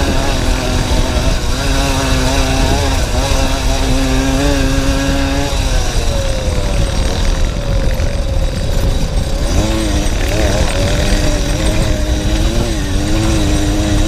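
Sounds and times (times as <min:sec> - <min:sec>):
small motorcycle engine buzzing: 0:00.0 - 0:14.0
wind rumble on microphone: 0:00.0 - 0:14.0.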